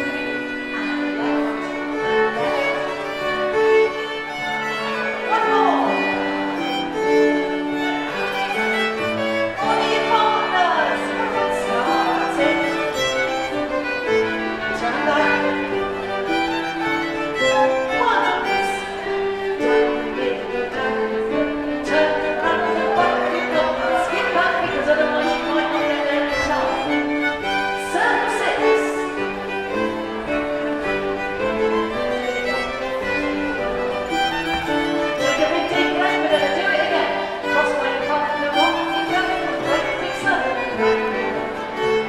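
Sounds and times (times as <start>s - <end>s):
fiddle-led country dance tune: 0.0s - 42.0s.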